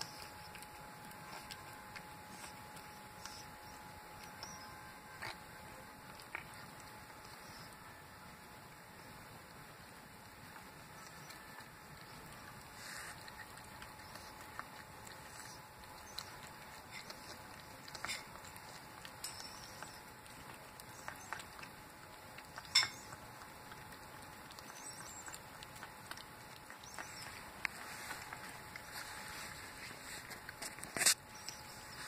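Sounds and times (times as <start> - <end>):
cat chewing and licking: 0.0 - 32.0.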